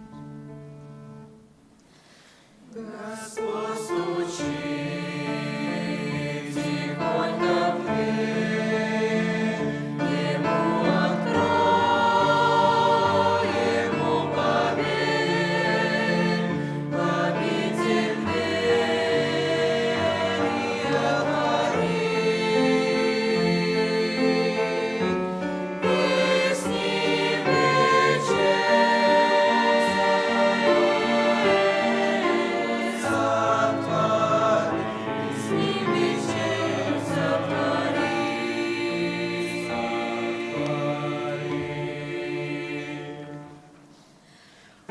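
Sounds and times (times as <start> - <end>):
choir singing a hymn: 2.6 - 44.9.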